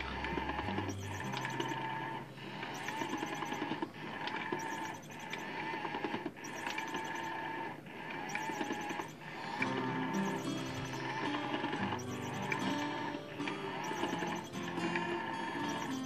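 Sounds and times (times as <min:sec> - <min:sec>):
small toy motor whirring: 0:00.0 - 0:16.0.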